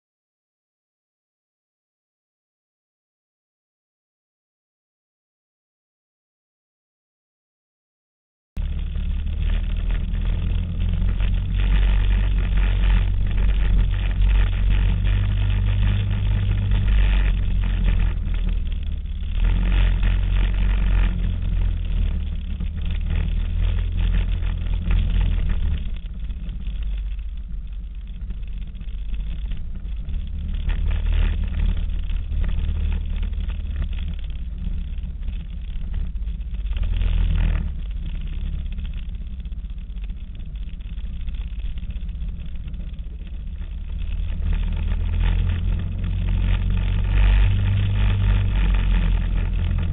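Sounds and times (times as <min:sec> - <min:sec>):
atv engine revving: 0:08.6 - 0:39.3, 0:40.6 - 0:49.9.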